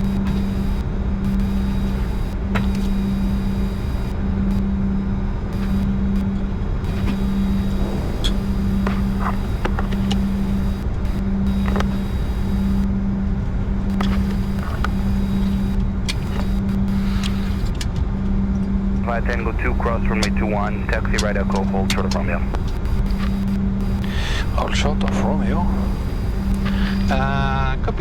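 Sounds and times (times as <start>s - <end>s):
jet engines idling hum: 0.0s - 28.0s.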